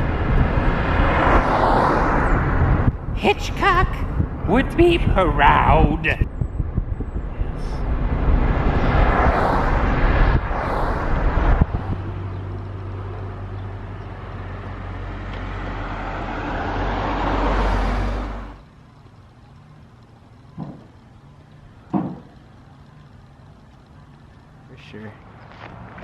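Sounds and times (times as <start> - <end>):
low engine hum: 0.0 - 26.0
rushing vehicle noise: 0.0 - 26.0.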